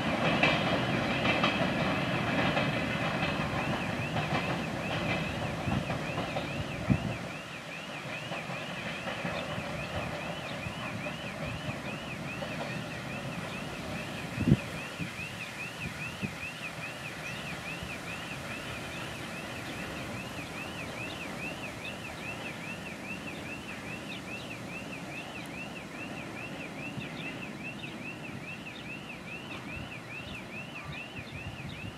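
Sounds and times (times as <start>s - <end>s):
distant diesel locomotive rumbling: 0.0s - 31.9s
high warbling chirp: 3.5s - 31.9s.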